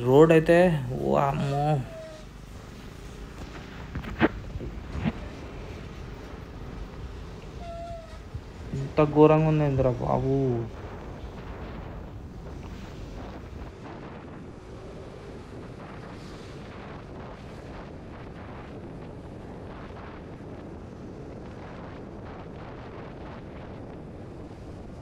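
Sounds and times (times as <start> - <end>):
wind rush on microphone: 0.0 - 25.0.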